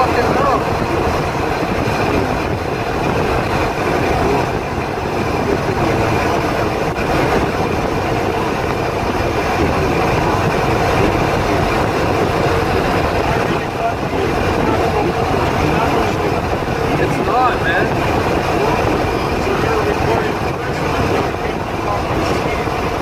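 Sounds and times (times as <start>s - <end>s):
truck engine and road noise: 0.0s - 23.0s.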